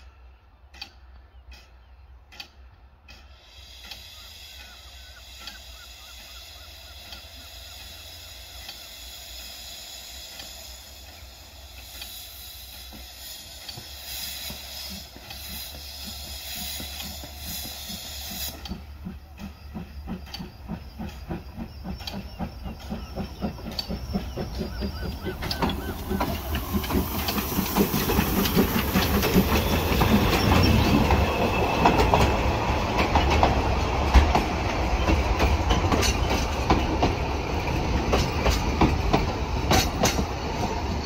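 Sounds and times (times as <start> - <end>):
steam locomotive beat: 0.0 - 41.0
steam hissing: 3.1 - 41.0.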